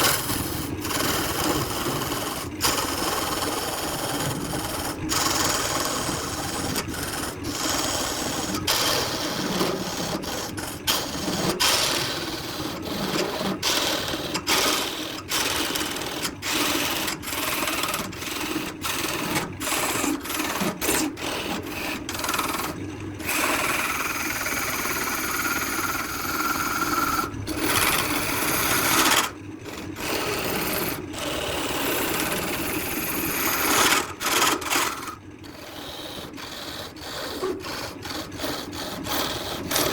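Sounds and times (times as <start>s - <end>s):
tool scraping spinning wood: 0.0s - 39.9s.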